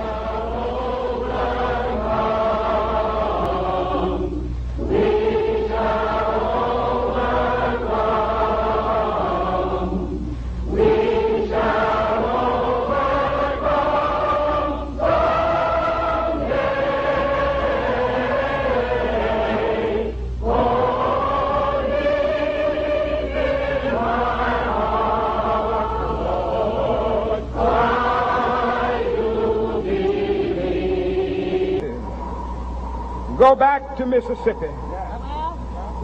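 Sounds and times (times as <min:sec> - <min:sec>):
group singing slow hymn: 0:00.0 - 0:33.4
low recording hum: 0:00.0 - 0:36.0.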